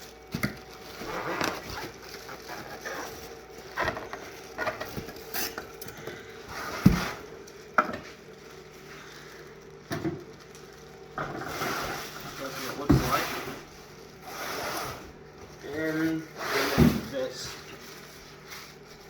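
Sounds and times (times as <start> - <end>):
packaging rustling: 0.0 - 14.3, 14.9 - 19.0.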